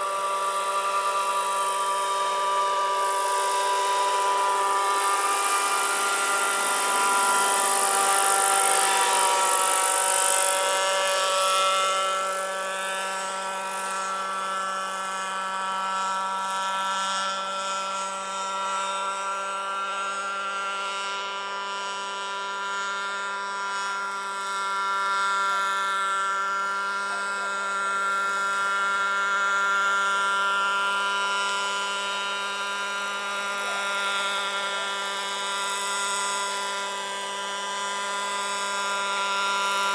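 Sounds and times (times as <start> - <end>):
model helicopter engine running: 0.0 - 39.9.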